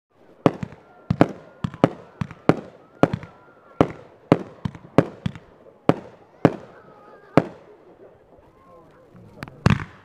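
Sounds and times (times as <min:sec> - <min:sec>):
fireworks bangs with echo: 0:00.2 - 0:08.6, 0:09.4 - 0:10.0.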